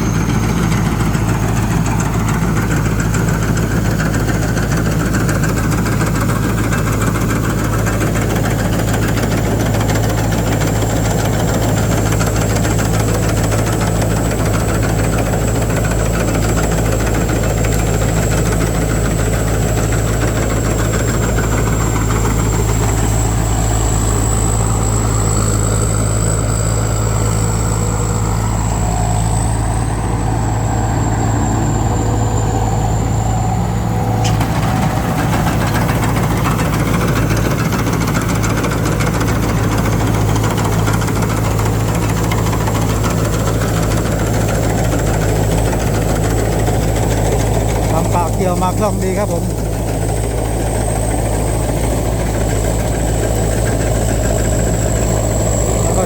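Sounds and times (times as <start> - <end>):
diesel engine droning: 0.0 - 56.0
high whine: 0.0 - 56.0.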